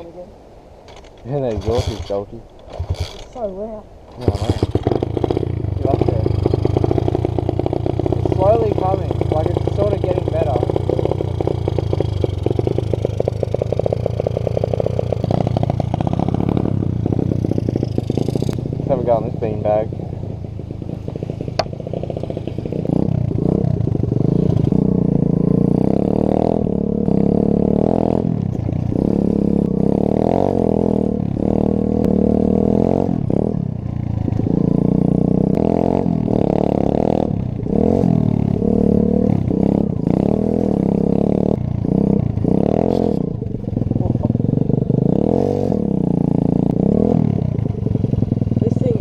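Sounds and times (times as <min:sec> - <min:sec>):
motorbike engine revving: 0:00.9 - 0:49.0.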